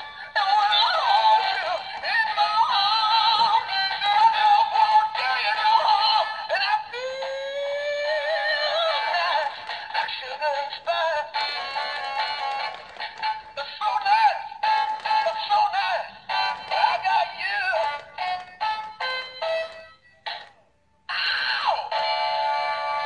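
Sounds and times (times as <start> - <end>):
tinny toy song with singing voice: 0.0 - 23.0.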